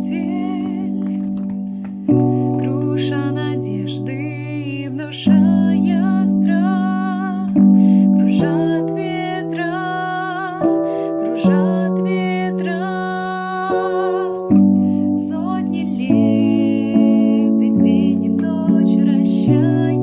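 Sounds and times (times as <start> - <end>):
keyboard chords: 0.0 - 20.0
woman singing: 0.0 - 20.0.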